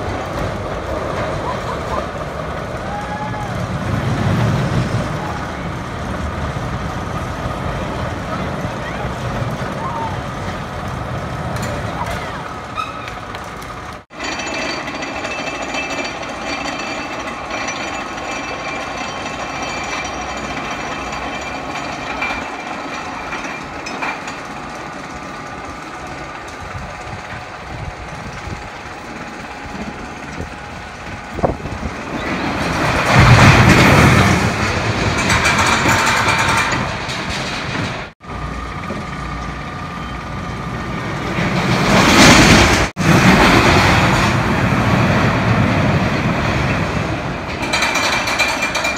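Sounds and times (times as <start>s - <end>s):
roller coaster clattering on track: 0.0s - 48.9s.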